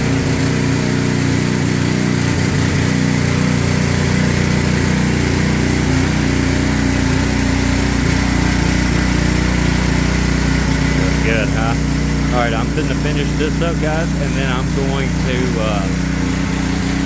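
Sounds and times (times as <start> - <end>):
small engine running: 0.0 - 17.0
spray hissing: 0.3 - 17.0.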